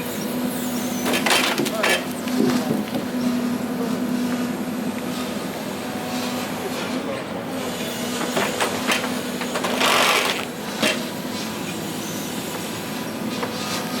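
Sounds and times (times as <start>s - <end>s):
forestry harvester humming: 0.0s - 14.0s.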